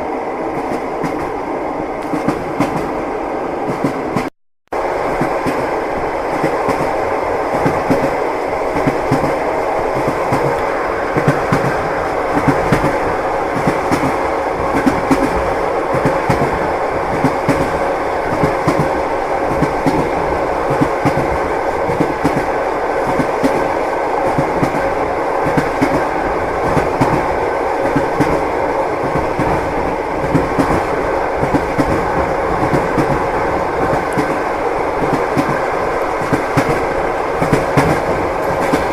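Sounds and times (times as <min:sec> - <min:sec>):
train wheels clattering on rails: 0:02.0 - 0:03.0, 0:05.0 - 0:38.9.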